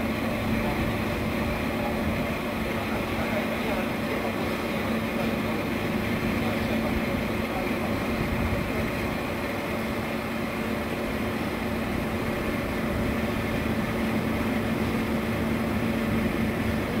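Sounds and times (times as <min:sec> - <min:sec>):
aerator mechanical hum: 0:00.0 - 0:17.0.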